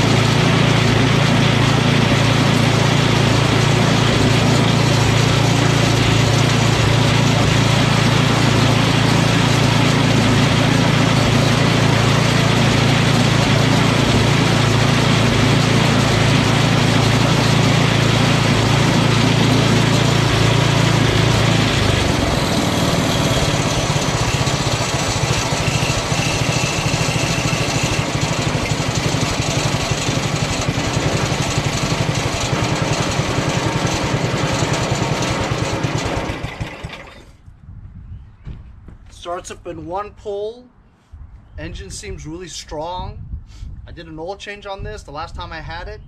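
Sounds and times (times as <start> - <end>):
snowblower engine running: 0.0 - 37.4.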